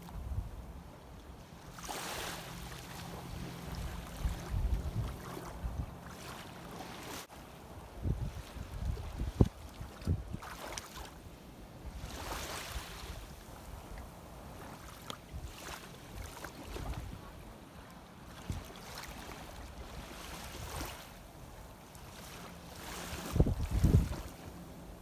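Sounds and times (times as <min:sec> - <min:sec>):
seawater sloshing: 0:00.0 - 0:07.5, 0:08.1 - 0:11.2, 0:11.9 - 0:25.0
small water splashes: 0:01.4 - 0:07.5, 0:08.3 - 0:11.2, 0:12.0 - 0:17.2, 0:17.8 - 0:24.5.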